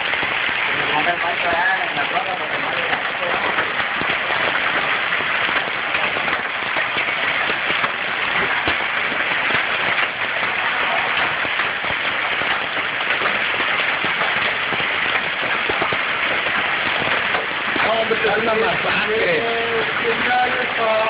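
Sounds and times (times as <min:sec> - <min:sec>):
hail falling: 0:00.0 - 0:21.0.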